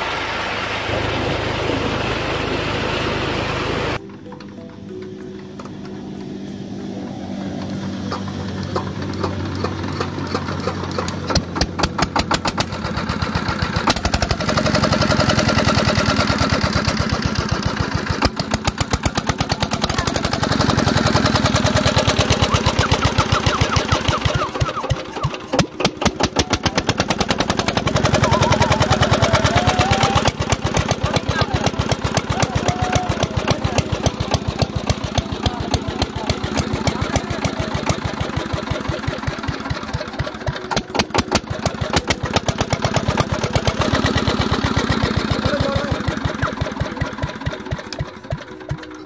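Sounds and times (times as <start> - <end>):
diesel engine chugging: 0.0 - 49.0.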